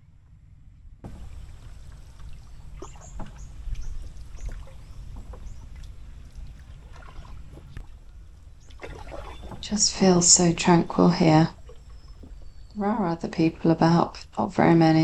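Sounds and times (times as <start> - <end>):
low steady rumble: 0.0 - 15.0
oars knocking and dipping in water: 1.0 - 15.0
birds chirping: 1.1 - 15.0.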